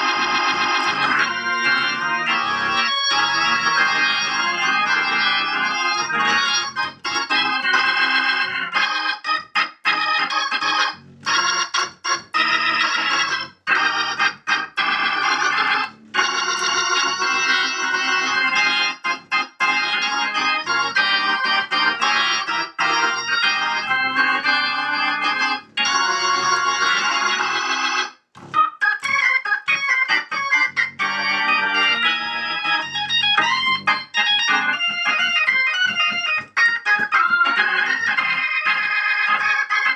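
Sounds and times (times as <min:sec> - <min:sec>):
organ playing chords and runs: 0:00.0 - 0:39.9.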